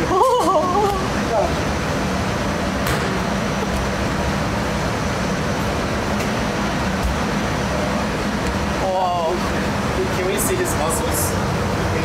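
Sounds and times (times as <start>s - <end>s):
kitchen ventilation roar: 0.0s - 12.0s.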